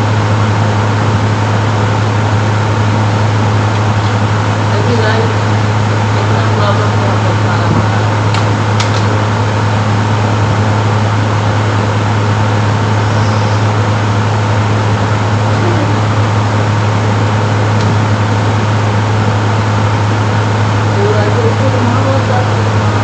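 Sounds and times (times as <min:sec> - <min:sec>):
constant rushing noise: 0:00.0 - 0:23.0
loud electrical hum: 0:00.0 - 0:23.0.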